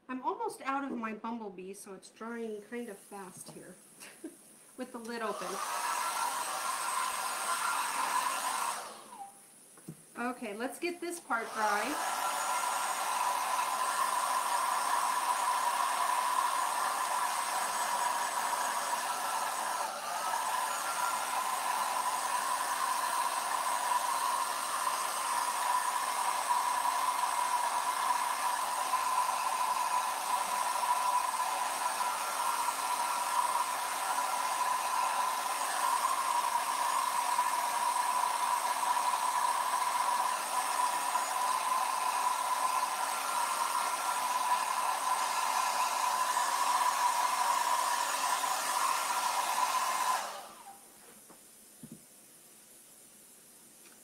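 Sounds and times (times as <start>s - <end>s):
hot-air blow dryer running: 3.4s - 50.9s.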